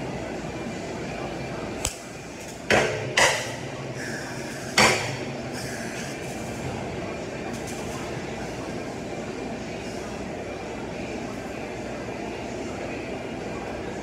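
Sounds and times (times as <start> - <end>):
steady shop hum: 0.0 - 14.0.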